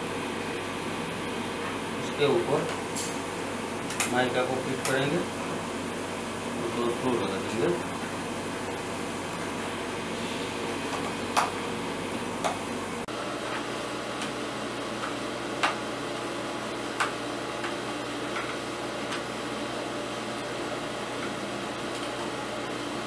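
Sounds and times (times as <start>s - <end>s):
steady room hum: 0.0s - 23.0s.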